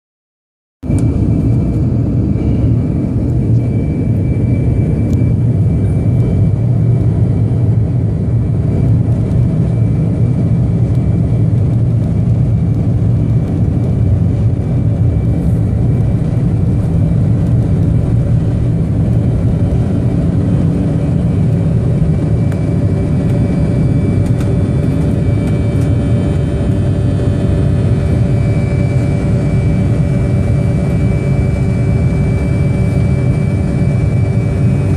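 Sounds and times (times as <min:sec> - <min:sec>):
airliner engines rumbling: 0:00.8 - 0:34.9
thin engine whine: 0:00.9 - 0:34.9.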